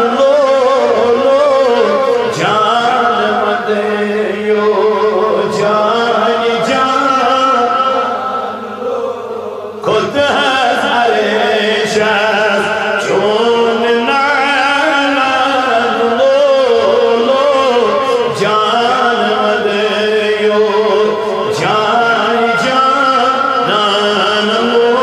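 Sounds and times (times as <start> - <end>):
man chanting into a microphone: 0.0 - 25.0.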